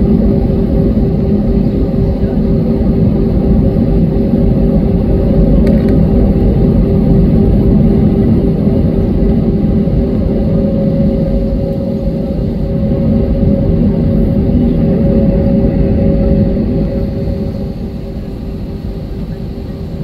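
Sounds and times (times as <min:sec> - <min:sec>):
aircraft cabin hum: 0:00.0 - 0:20.0
jet engines rumbling: 0:00.0 - 0:20.0.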